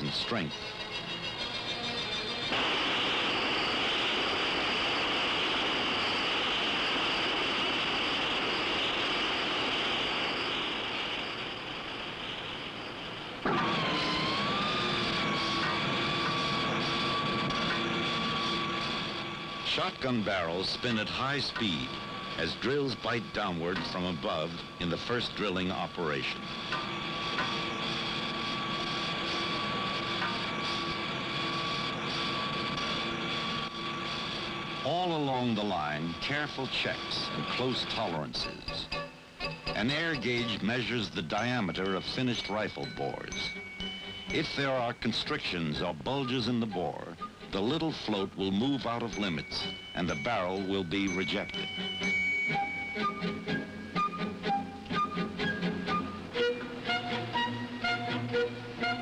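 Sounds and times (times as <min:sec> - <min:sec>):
drilling machine drone: 0:00.0 - 0:59.0
thin high whine: 0:00.0 - 0:59.0.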